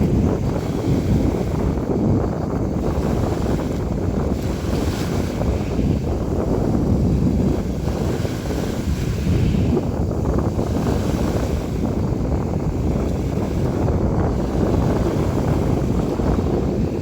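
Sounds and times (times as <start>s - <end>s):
sea waves splashing: 0.0s - 17.0s
wind on microphone: 0.0s - 17.0s.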